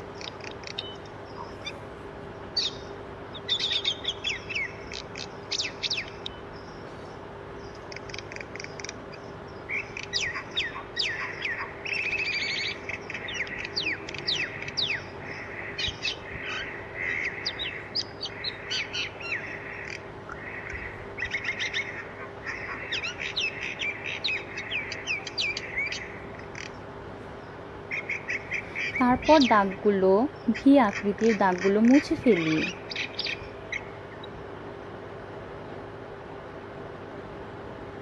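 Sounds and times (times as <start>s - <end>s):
birds chirping and twittering: 0.0s - 38.0s
faint steady hum: 0.0s - 38.0s.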